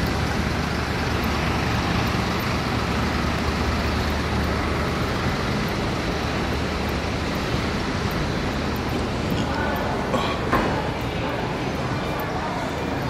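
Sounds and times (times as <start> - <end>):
airport terminal roar: 0.0 - 13.0.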